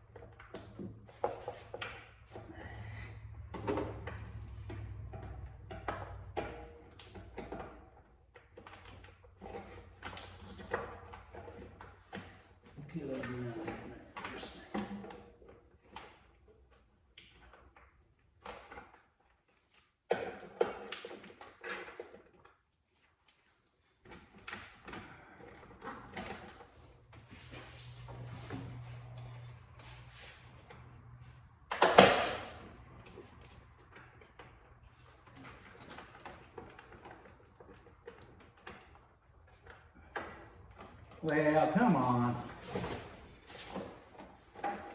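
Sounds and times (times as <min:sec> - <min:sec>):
tools and parts clicking and rattling: 0:00.0 - 0:02.6, 0:03.3 - 0:44.9.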